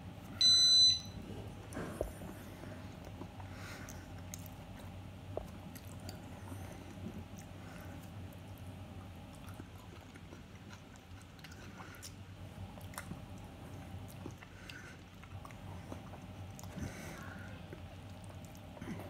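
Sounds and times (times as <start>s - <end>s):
low steady hum: 0.0s - 19.0s
person chewing food: 1.3s - 19.0s.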